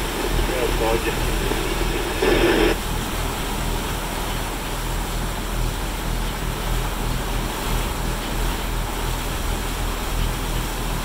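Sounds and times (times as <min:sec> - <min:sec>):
boat engines running: 0:00.0 - 0:11.0
rush of wake water: 0:00.0 - 0:11.0.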